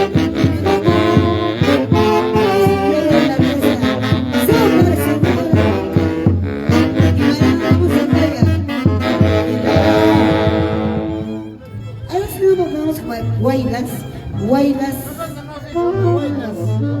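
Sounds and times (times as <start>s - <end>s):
live band with saxophones and brass: 0.0s - 17.0s.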